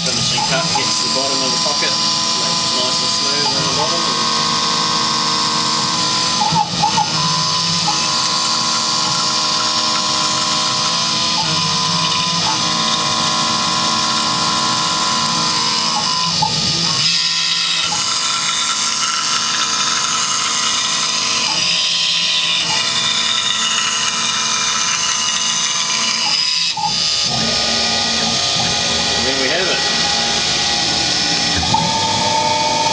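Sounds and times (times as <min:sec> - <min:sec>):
cutter machining plastic: 0:00.0 - 0:32.9
milling machine spindle whining: 0:00.0 - 0:32.9.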